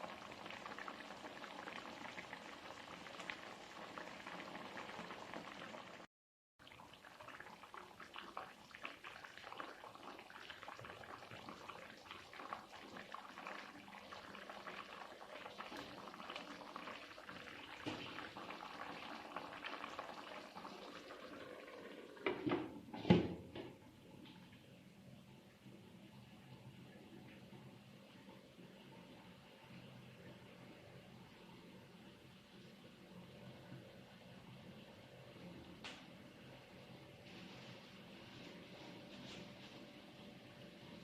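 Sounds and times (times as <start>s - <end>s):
liquid simmering in a pan: 0.0s - 41.0s.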